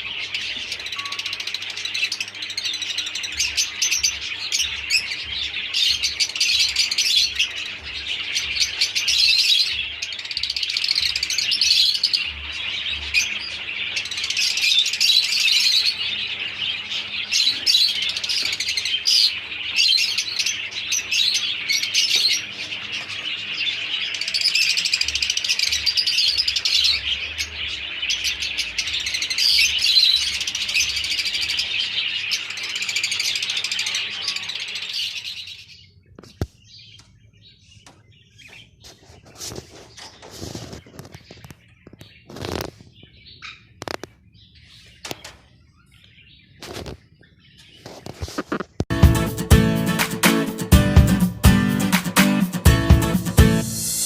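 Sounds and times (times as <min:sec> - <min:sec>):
parrots chirping and chattering: 0:00.0 - 0:48.9.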